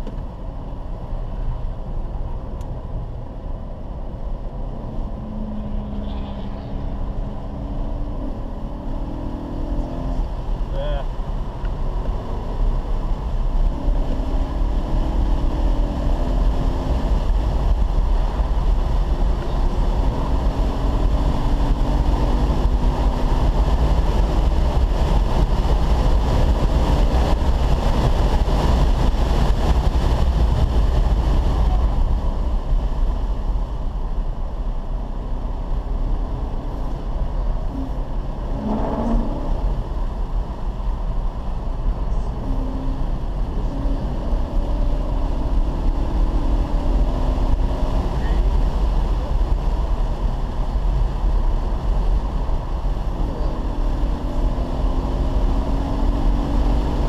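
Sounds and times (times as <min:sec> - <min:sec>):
car engine: 0:00.0 - 0:57.0
road and wind noise in cabin: 0:00.0 - 0:57.0.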